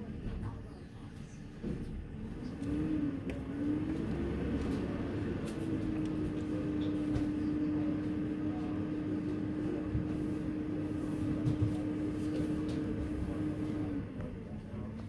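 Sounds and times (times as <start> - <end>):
garbage truck humming: 1.6 - 15.0.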